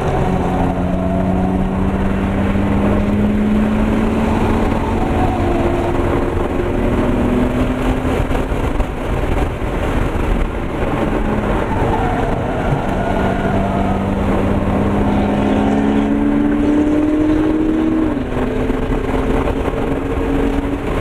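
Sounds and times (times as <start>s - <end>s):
car engine revving: 0.0s - 21.0s
road and wind noise: 0.0s - 21.0s.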